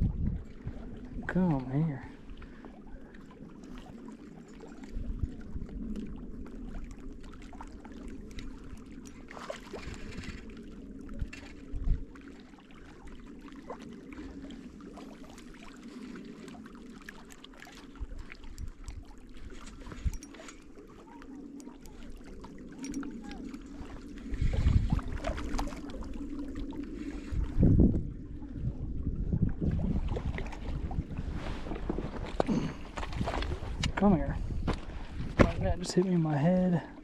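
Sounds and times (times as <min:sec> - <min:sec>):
water lapping and splashing: 0:00.0 - 0:37.0.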